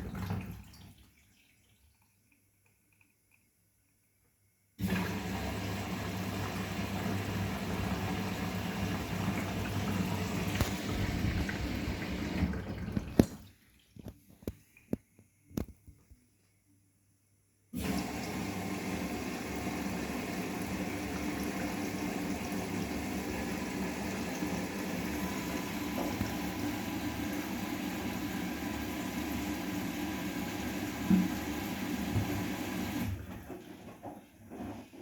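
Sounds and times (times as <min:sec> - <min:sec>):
water rushing through washing machine: 0:00.0 - 0:02.5, 0:04.8 - 0:14.5, 0:17.8 - 0:35.0.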